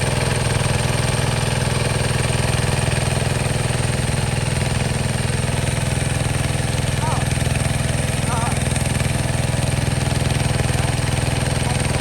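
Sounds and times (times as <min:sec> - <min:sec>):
tractor diesel engine chugging: 0:00.0 - 0:12.0.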